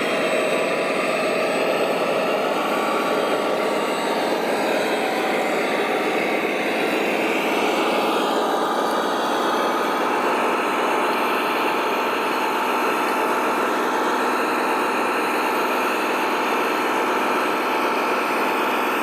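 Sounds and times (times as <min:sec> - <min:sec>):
model truck motor running: 0:00.0 - 0:19.0.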